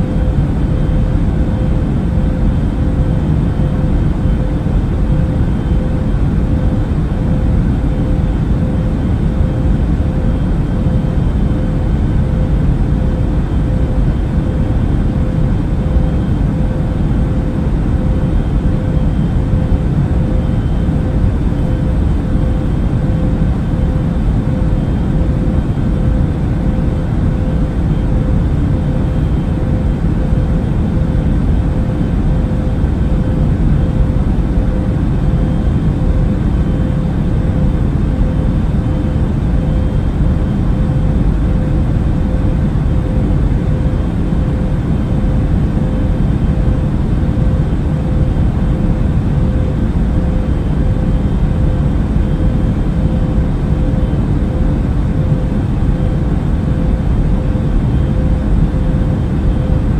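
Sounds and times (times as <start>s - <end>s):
airliner engine and airflow rumble: 0.0s - 59.9s
constant hum tone: 0.0s - 59.9s.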